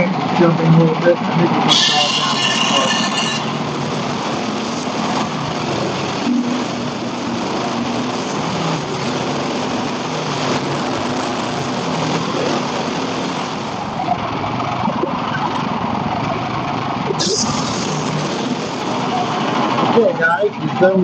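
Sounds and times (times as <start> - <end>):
bandsaw mill engine droning: 0.0 - 21.0.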